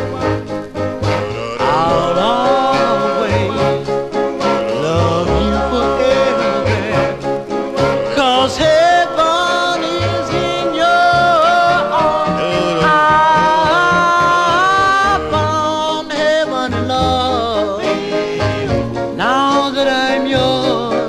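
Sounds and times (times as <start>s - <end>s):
slow love song on record: 0.0s - 21.0s.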